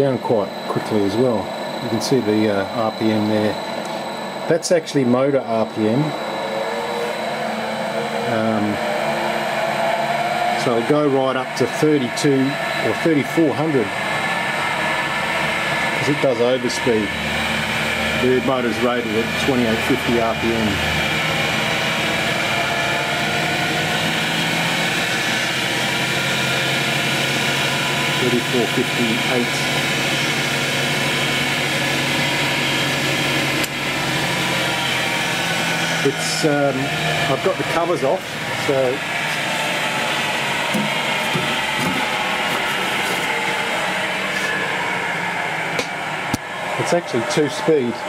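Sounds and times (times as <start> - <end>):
grinder motor humming: 0.0 - 48.0.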